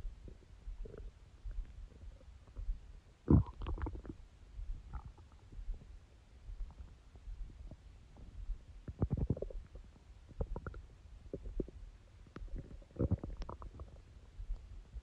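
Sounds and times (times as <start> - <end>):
stomach growling: 0.0 - 5.9, 6.6 - 15.0.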